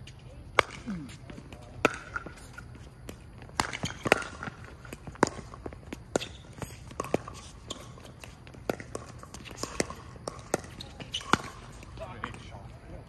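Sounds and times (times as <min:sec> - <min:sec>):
shoes scuffing on hard court: 0:01.1 - 0:12.6.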